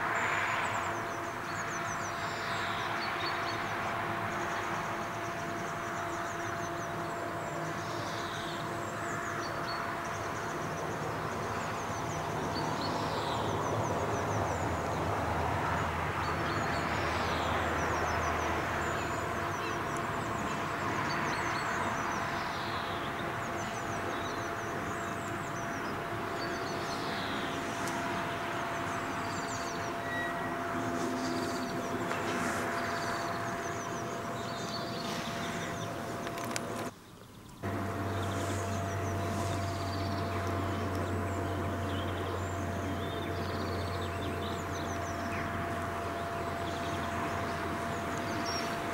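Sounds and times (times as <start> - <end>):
steady mechanical hum: 0.0 - 48.9
birds chirping: 0.6 - 48.9.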